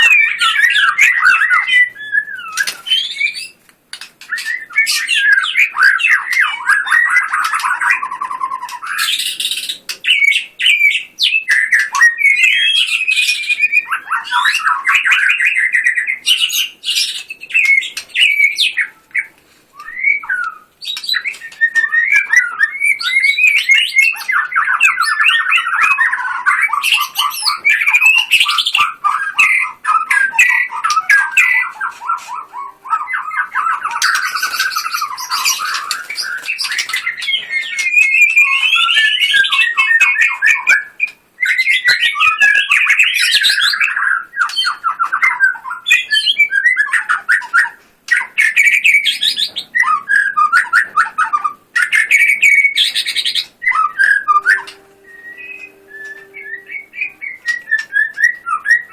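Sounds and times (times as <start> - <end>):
bird singing whistled phrases: 0.0 - 3.6, 4.2 - 58.9.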